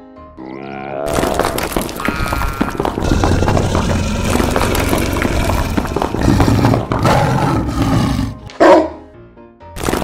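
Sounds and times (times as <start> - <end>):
cartoon animal roars: 0.4 - 8.4.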